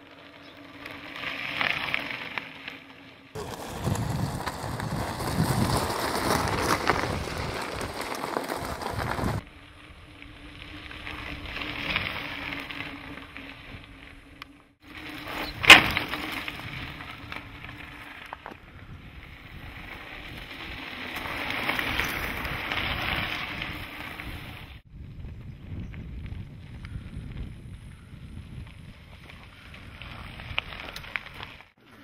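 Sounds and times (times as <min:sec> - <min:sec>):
bike tyres crunching on gravel: 0:00.0 - 0:32.0.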